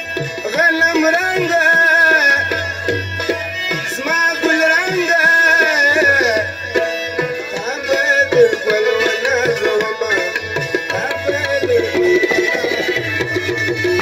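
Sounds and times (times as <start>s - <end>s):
harmonium: 0.0s - 14.0s
man singing: 0.0s - 14.0s
tabla beat: 0.0s - 14.0s.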